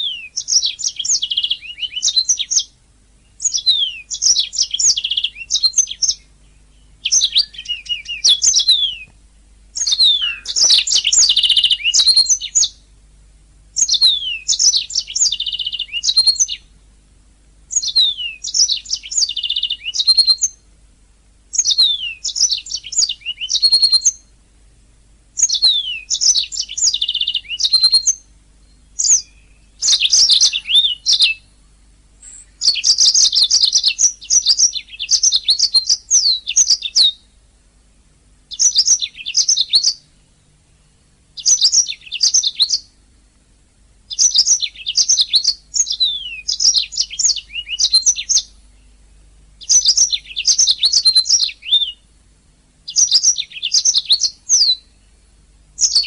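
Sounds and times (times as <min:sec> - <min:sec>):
canary singing: 0:00.0 - 0:13.0, 0:13.7 - 0:17.0, 0:17.7 - 0:20.7, 0:21.5 - 0:24.4, 0:25.4 - 0:37.4, 0:38.5 - 0:43.2, 0:44.1 - 0:52.2, 0:52.8 - 0:56.0.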